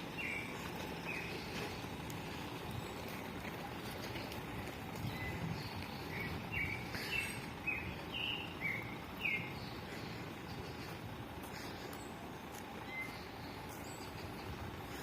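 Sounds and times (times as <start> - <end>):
bird chirping: 0.0 - 15.0
outdoor background noise: 0.0 - 15.0.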